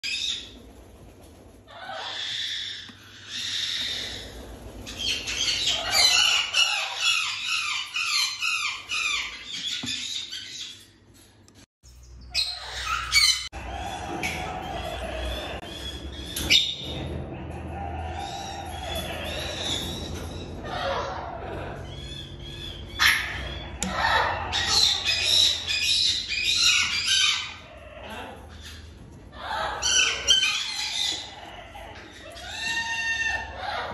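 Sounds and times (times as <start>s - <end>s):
parrots squawking: 1.7s - 10.9s, 12.3s - 33.9s.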